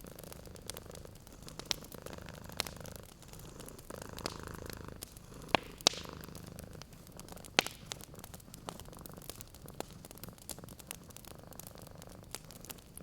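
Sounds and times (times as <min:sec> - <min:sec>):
cat purring: 0:00.0 - 0:13.0
wood fire crackling: 0:00.0 - 0:13.0.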